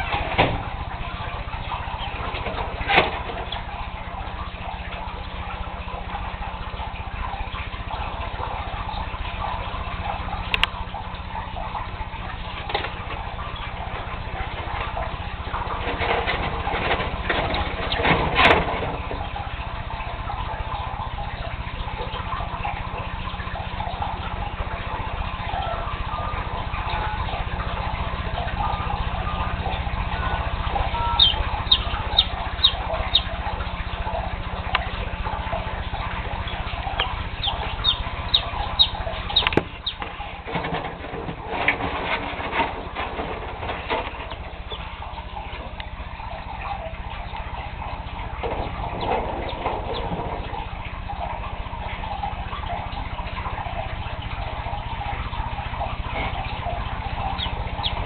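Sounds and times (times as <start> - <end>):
chick peeping: 0.0 - 58.0
steady low hum: 0.0 - 58.0.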